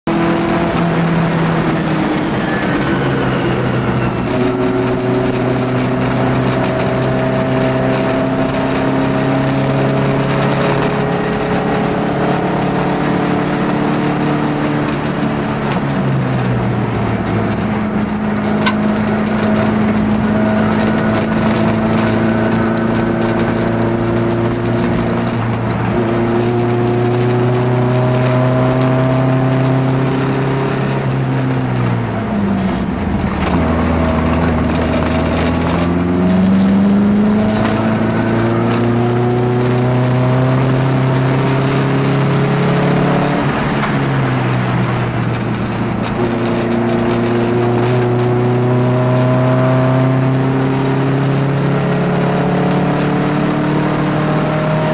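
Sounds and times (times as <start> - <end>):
car engine running hard: 0.0 - 54.9.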